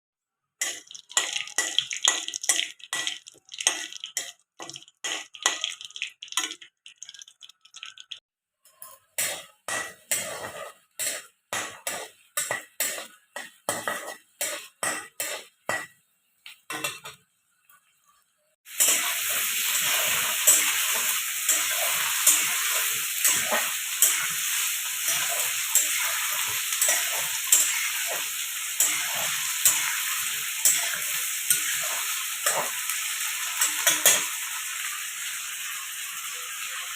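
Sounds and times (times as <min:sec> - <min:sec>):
food sizzling in hot oil: 0:00.5 - 0:08.2, 0:09.0 - 0:36.9.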